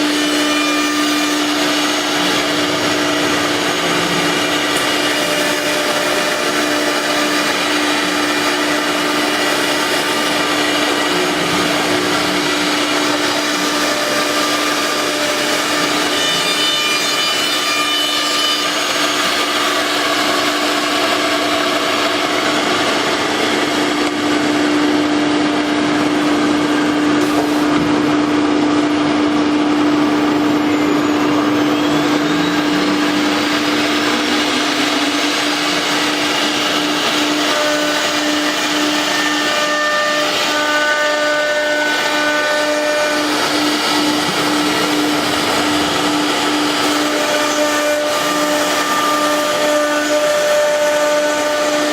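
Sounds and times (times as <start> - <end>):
router cutting wood: 0.0 - 27.8, 30.7 - 51.9.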